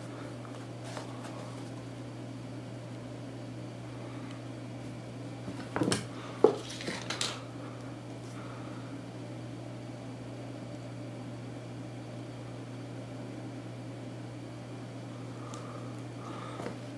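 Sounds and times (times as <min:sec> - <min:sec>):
low background hum: 0:00.0 - 0:16.9.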